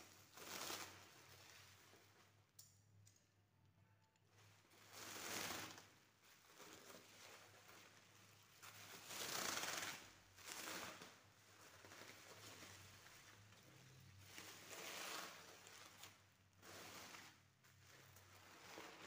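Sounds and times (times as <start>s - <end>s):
bubble wrap crinkling: 0.0s - 2.4s, 4.3s - 19.0s.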